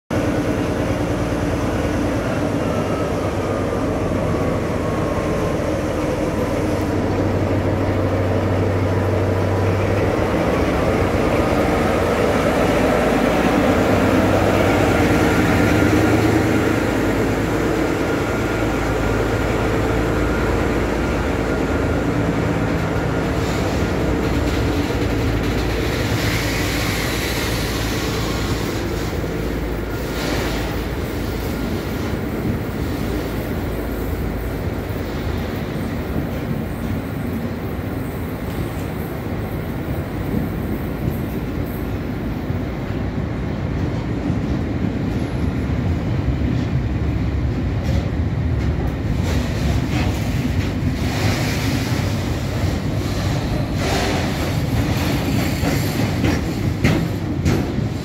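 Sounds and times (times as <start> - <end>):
diesel locomotive engine drone: 0.1 - 58.0
train wagons rumbling on rails: 0.1 - 58.0.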